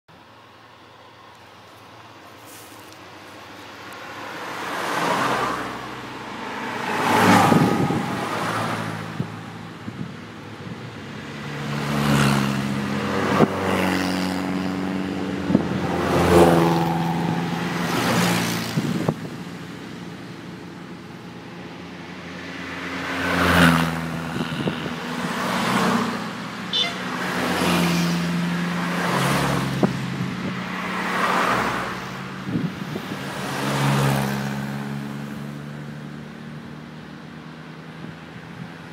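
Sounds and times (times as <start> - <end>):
cars driving past: 0.4 - 38.9.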